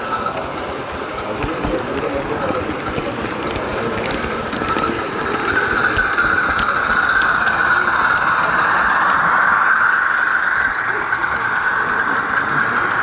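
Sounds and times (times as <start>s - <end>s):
model train whirring: 0.0s - 13.0s.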